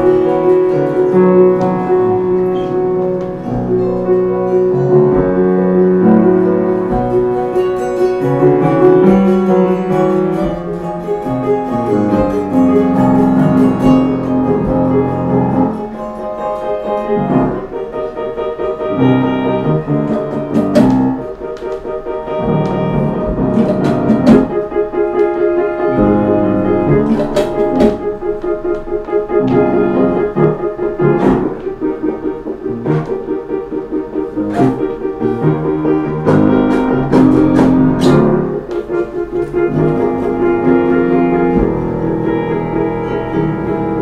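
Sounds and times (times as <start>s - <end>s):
sharp single piano notes: 0.0s - 33.3s, 34.4s - 44.0s
acoustic guitar: 0.0s - 44.0s
piano playing held chords: 0.0s - 44.0s.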